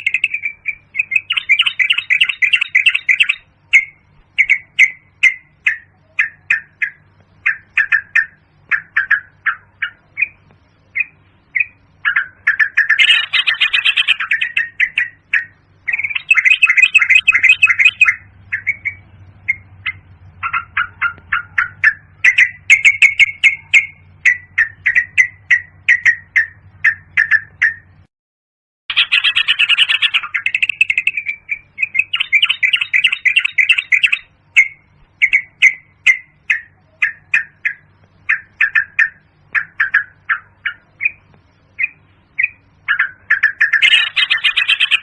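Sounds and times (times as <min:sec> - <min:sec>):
bird calling bubbly notes: 0:00.0 - 0:10.4, 0:11.0 - 0:27.9, 0:28.9 - 0:45.0
faint low hum: 0:00.0 - 0:28.1, 0:28.9 - 0:45.0.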